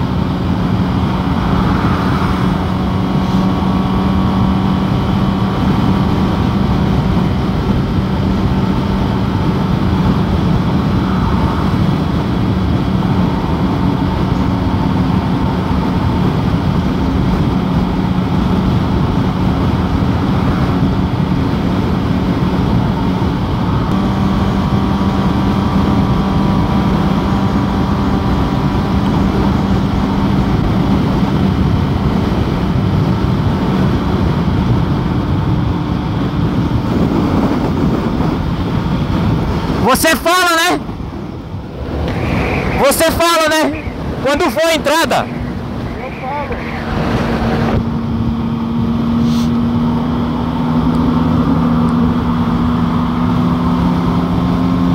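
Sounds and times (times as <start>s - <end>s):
motorcycle engine cruising: 0.0s - 54.9s
wind and road noise: 0.0s - 54.9s.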